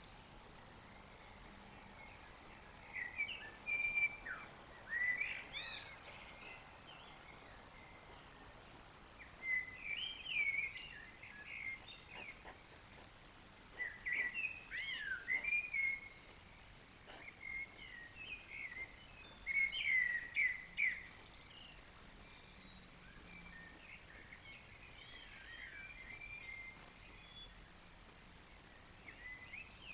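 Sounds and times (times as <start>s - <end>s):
songbird singing: 0.0s - 29.9s.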